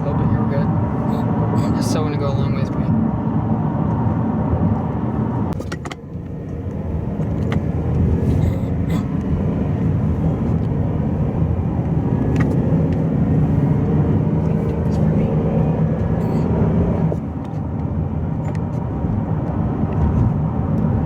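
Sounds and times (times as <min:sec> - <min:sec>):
road and wind noise in car: 0:00.0 - 0:21.0.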